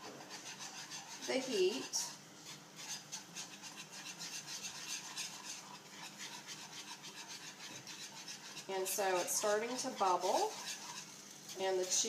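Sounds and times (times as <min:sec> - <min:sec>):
wire whisk scraping a skillet: 0:00.0 - 0:12.0.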